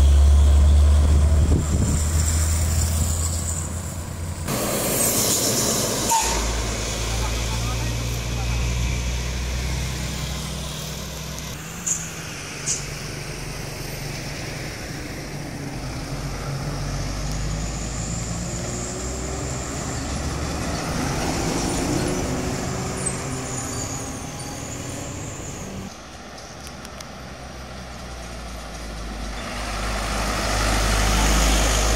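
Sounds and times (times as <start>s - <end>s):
truck engines: 0.0s - 31.9s.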